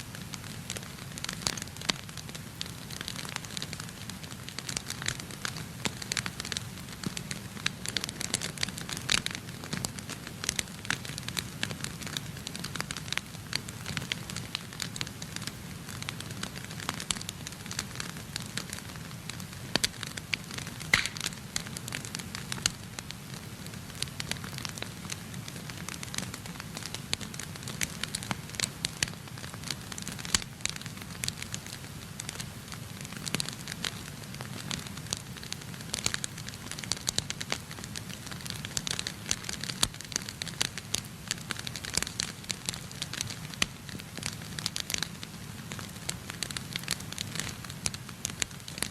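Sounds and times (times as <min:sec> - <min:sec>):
low rumble of fire: 0:00.0 - 0:48.9
wood fire crackling and popping: 0:00.1 - 0:48.9.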